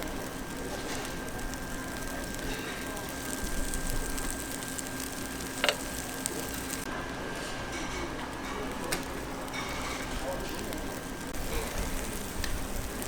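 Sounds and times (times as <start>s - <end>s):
batter sizzling in griddle: 0.0s - 13.0s.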